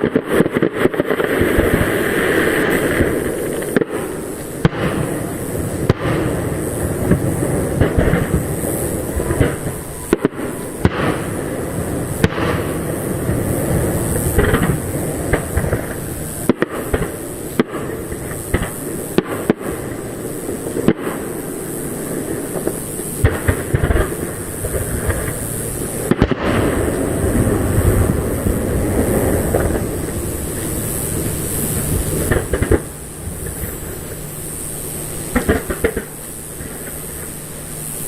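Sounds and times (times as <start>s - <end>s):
firework shell bursts rumbling: 0.0s - 38.0s
loud firework bangs: 0.0s - 38.0s.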